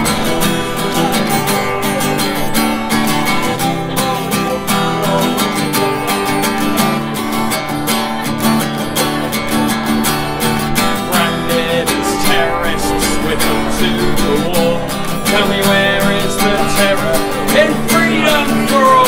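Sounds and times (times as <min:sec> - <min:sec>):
man singing: 0:00.0 - 0:07.1, 0:10.4 - 0:19.0
acoustic guitar strumming: 0:00.0 - 0:19.0.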